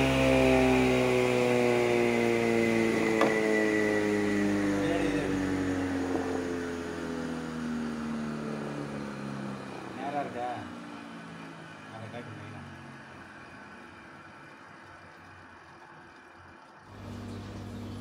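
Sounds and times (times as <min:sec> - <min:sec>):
wood planer winding down: 0:00.0 - 0:15.4, 0:16.9 - 0:18.0.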